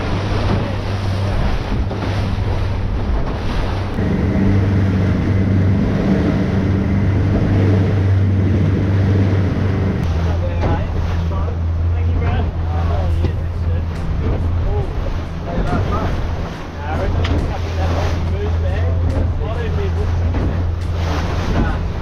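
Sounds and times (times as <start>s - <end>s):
boat wake rushing: 0.0s - 22.0s
outboard motor running: 0.0s - 22.0s
wind buffeting microphone: 0.0s - 22.0s.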